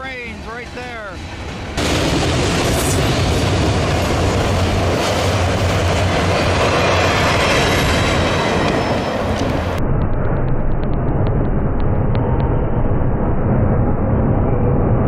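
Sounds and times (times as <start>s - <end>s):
steel wheels rumbling on rail: 0.0s - 12.5s.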